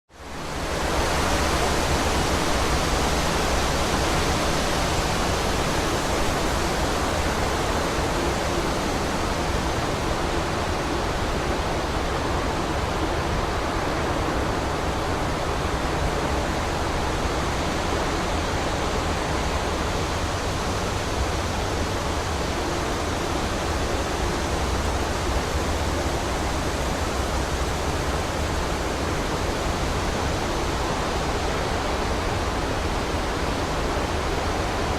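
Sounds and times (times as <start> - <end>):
wind blowing through trees: 0.1 - 34.9.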